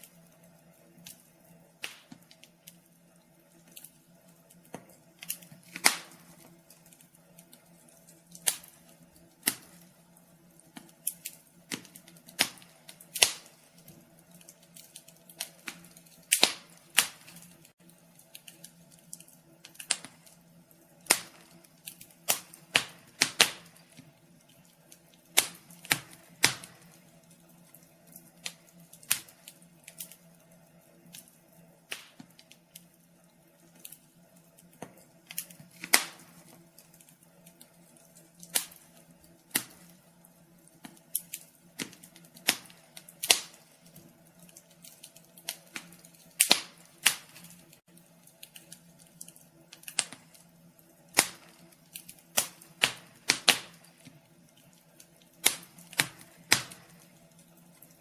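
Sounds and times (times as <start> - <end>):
fire pops: 0.0 - 58.0
wood fire crackling: 0.0 - 58.0.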